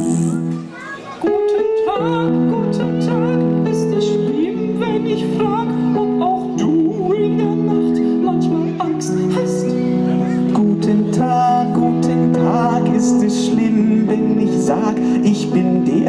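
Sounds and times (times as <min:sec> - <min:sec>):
electric piano chords: 0:00.0 - 0:16.0.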